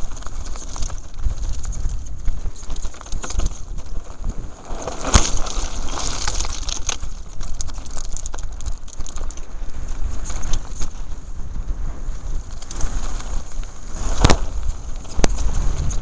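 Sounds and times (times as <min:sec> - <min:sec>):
bike clicking and knocking over stones: 0:00.0 - 0:11.2, 0:12.5 - 0:16.0
wind rumbling on microphone: 0:00.0 - 0:16.0.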